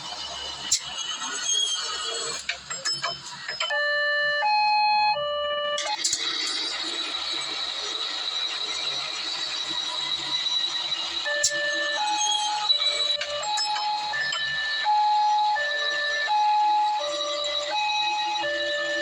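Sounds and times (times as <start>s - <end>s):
electronic toy train siren: 3.6s - 19.0s.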